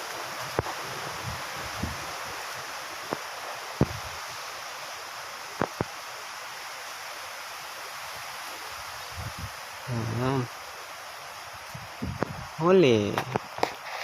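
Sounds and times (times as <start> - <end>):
steady wind: 0.0 - 14.0.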